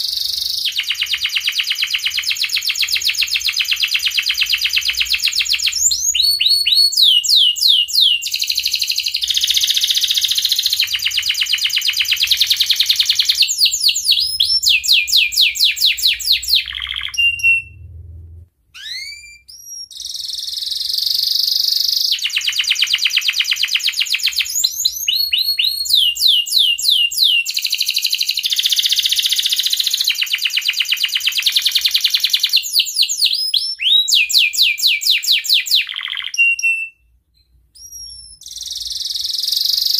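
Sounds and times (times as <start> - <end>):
canary singing trills: 0.0 - 18.0, 18.8 - 37.0.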